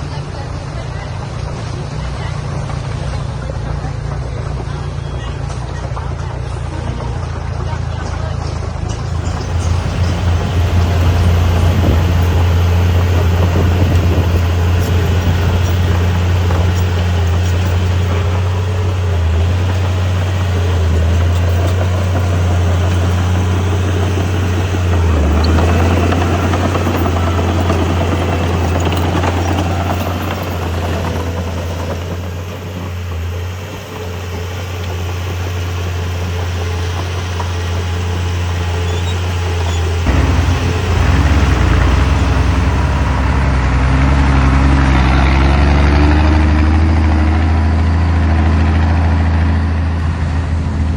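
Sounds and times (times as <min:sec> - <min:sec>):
diesel engine low drone: 0:00.0 - 0:50.9.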